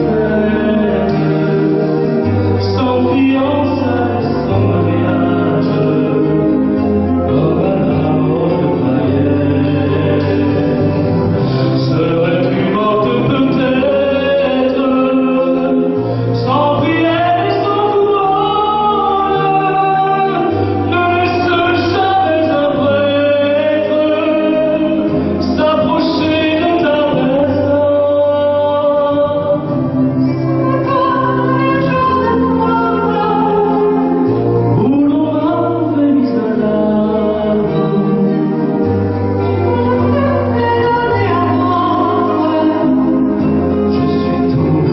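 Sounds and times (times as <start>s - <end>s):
instrumental backing with bass line: 0.0s - 44.9s
person singing a chanson: 0.0s - 44.9s.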